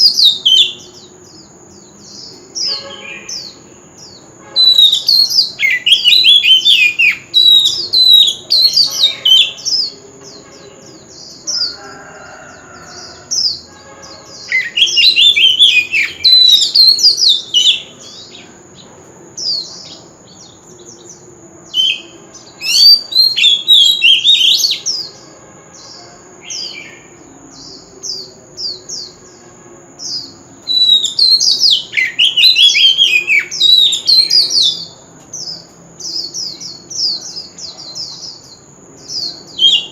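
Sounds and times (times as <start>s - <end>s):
bird singing whistles and trills: 0.0s - 11.8s, 13.2s - 25.2s, 25.8s - 29.2s, 30.0s - 39.9s.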